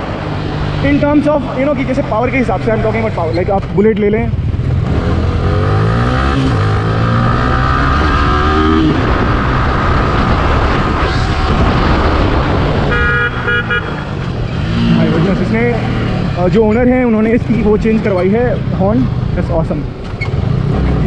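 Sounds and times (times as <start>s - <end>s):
wind and road rush: 0.0s - 21.0s
motorcycle engine revving: 0.4s - 17.4s, 18.5s - 21.0s.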